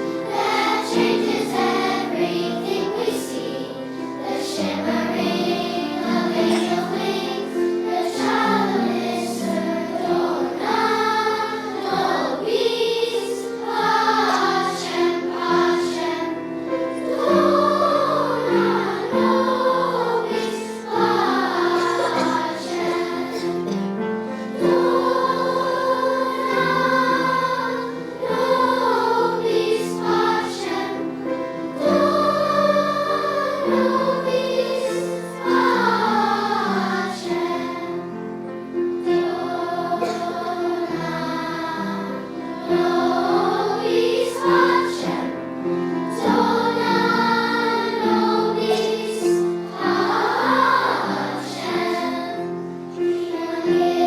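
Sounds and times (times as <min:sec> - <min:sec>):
children's choir singing: 0:00.0 - 0:54.0
instrumental accompaniment: 0:00.0 - 0:54.0.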